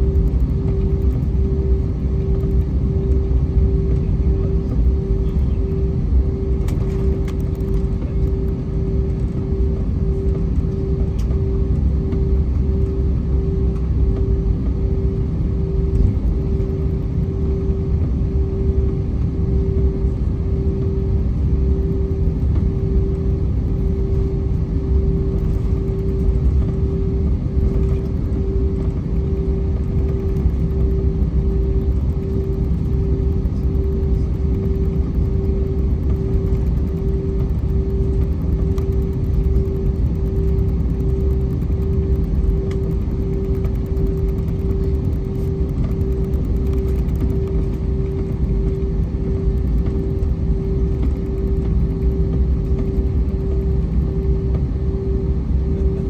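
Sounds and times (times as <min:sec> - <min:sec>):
jet cabin rumble: 0:00.0 - 0:56.0
pulsing hum: 0:00.0 - 0:56.0.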